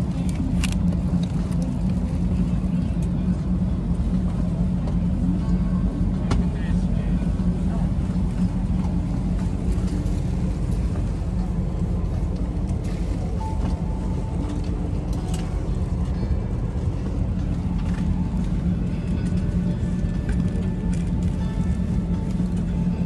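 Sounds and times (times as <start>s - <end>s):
aircraft cabin hum: 0.0s - 23.0s.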